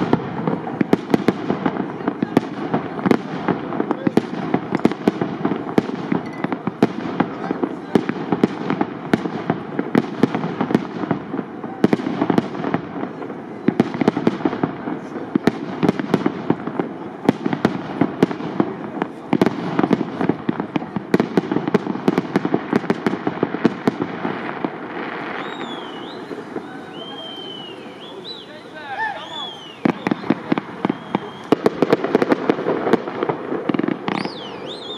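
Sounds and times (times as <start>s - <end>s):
fireworks bangs: 0.0s - 34.9s
fireworks rumble: 0.0s - 34.9s.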